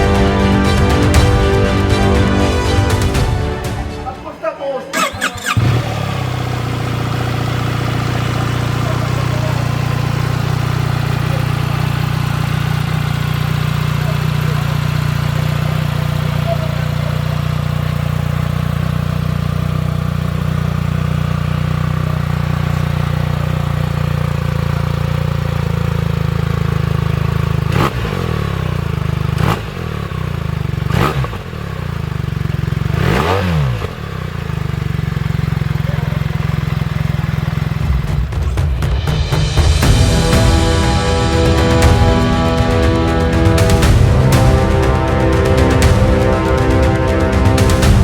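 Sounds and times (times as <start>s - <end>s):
motorcycle engine revving: 4.9s - 48.0s.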